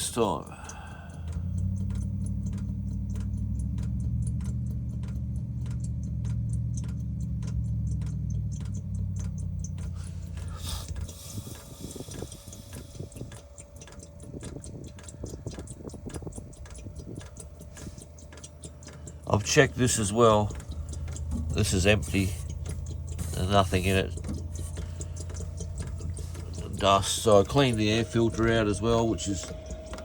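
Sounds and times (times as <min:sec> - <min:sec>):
fuel pump ticking: 0:00.0 - 0:30.0
heater fan and burner hum: 0:00.0 - 0:30.0.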